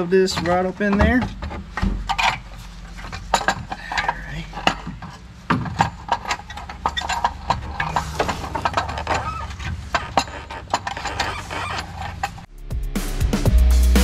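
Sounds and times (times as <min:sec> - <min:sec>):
metal knocks and scrapes: 0:00.0 - 0:12.5
steady low hum: 0:00.0 - 0:12.6.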